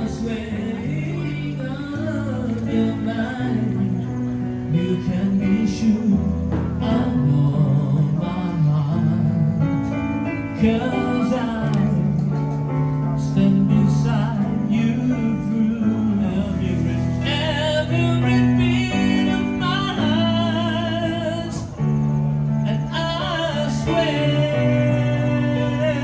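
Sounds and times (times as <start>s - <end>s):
man singing: 0.0s - 26.0s.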